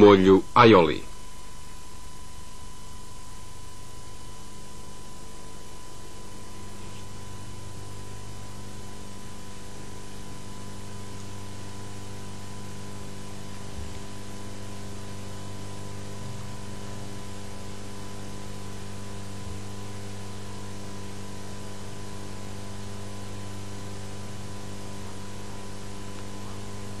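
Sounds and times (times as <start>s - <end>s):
constant hiss: 0.0s - 27.0s
electrical hum: 0.0s - 27.0s.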